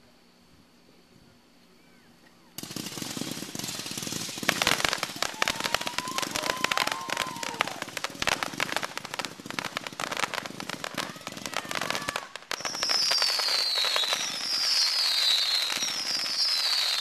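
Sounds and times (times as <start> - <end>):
falling firework whistle: 2.6 - 17.0
fireworks shots and crackling: 2.6 - 17.0.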